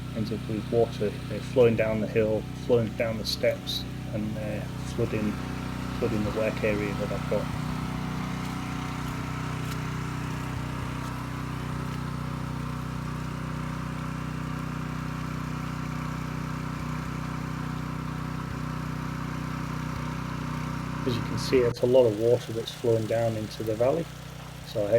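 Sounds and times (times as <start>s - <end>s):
small engine idling: 0.0s - 24.9s.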